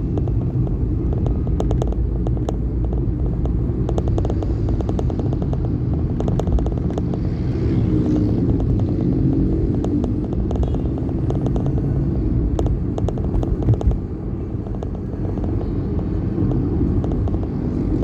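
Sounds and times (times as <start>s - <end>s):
light clicks and rattles: 0.0s - 18.0s
vehicle rumble: 0.0s - 18.0s.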